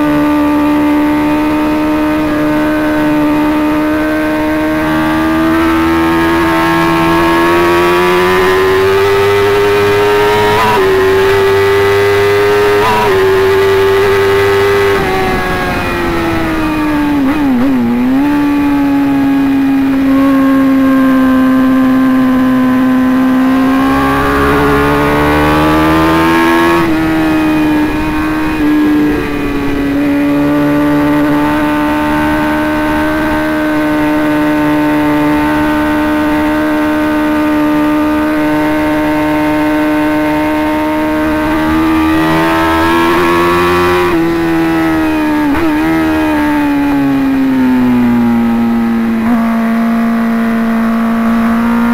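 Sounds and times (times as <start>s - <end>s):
motorcycle engine at high speed: 0.0s - 51.9s.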